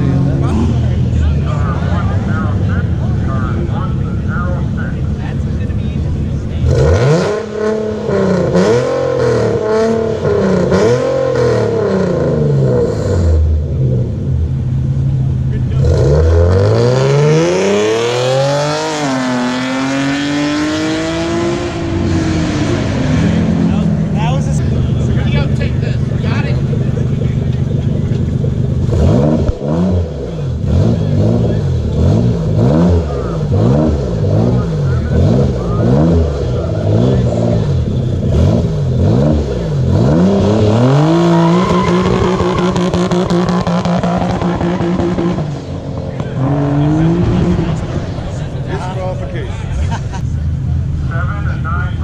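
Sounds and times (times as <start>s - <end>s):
car engine revving hard: 0.0s - 50.2s.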